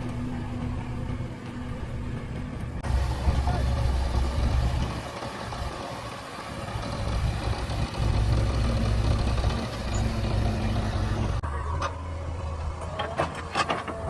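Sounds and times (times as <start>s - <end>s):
diesel engine running under work: 0.0s - 11.4s.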